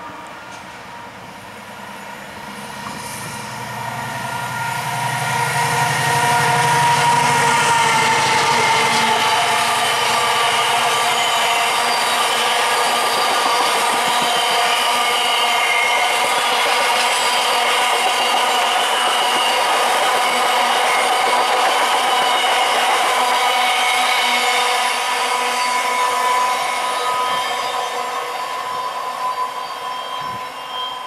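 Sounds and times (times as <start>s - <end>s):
train rolling past on rails: 0.0s - 31.0s
high ringing whine: 4.2s - 31.0s.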